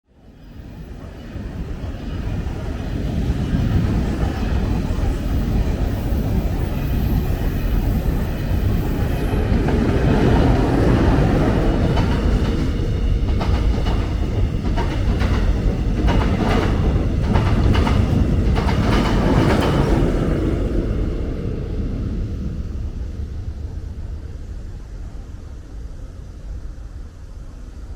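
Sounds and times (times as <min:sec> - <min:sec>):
train rumbling past: 0:00.2 - 0:27.9.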